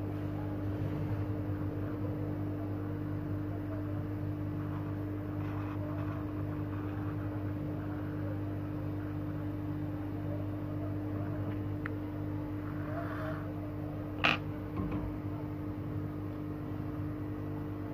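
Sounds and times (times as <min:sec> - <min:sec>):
hot air blower humming: 0:01.7 - 0:17.9.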